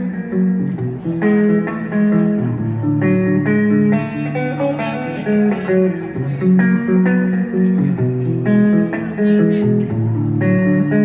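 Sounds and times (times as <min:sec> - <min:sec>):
guitar picking notes and chords: 0:00.0 - 0:11.0.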